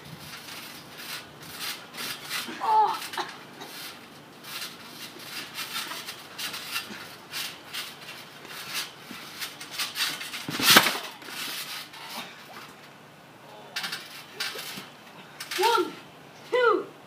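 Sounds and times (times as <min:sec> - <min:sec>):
trampoline springs creaking: 0:00.0 - 0:16.7.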